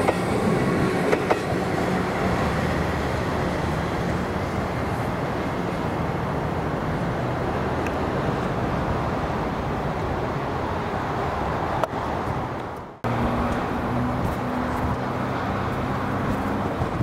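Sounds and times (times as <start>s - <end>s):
electric train rumbling on track: 0.0s - 17.0s.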